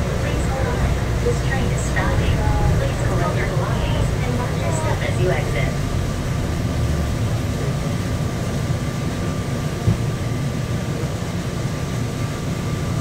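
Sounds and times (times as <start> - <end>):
train rumble with high whine: 0.0 - 13.0.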